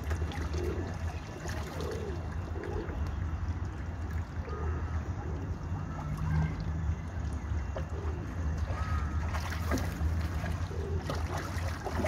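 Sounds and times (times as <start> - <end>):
small water splashes: 0.0 - 12.0.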